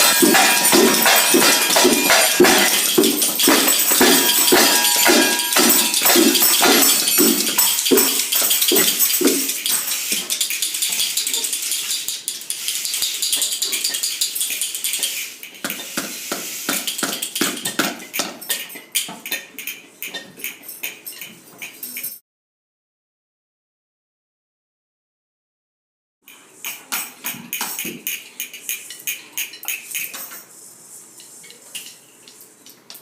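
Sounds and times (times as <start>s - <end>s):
hand percussion shaking and tapping: 0.0s - 22.2s, 26.2s - 33.0s.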